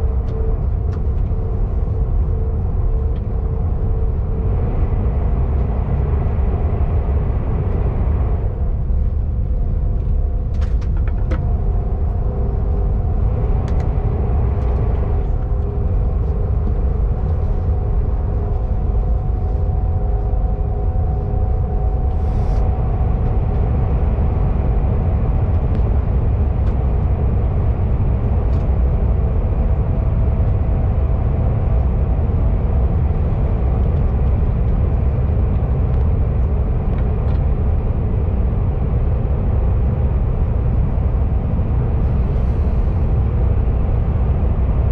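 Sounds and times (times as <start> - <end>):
faint steady hum: 0.0 - 44.9
train interior rumble: 0.0 - 44.9.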